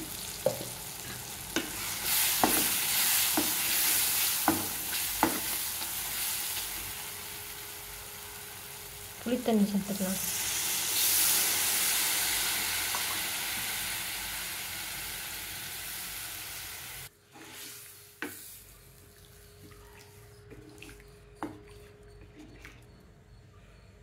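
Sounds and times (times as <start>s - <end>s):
liquid sizzling in hot pan: 0.0s - 19.4s.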